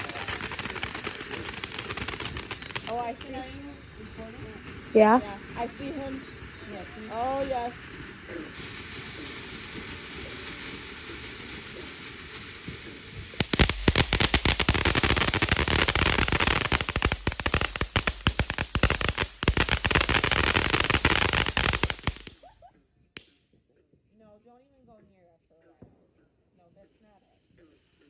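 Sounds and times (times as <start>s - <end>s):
firework hissing: 0.0s - 22.5s
fireworks crackling bangs: 0.0s - 22.5s.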